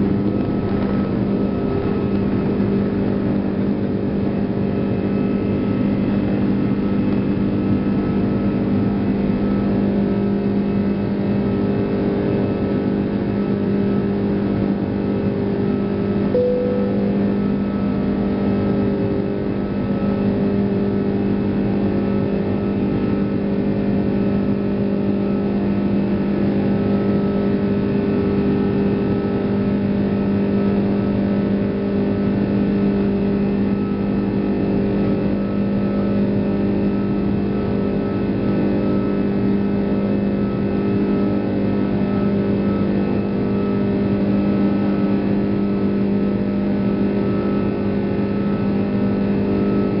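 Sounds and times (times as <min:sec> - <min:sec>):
jet engine drone in cabin: 0:00.0 - 0:50.0.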